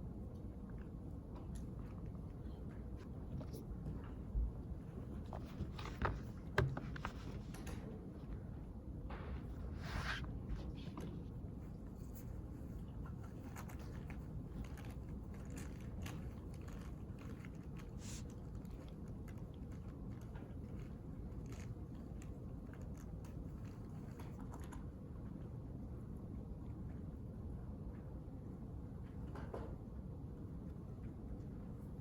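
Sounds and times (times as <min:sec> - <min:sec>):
ventilation hum: 0:00.0 - 0:32.0.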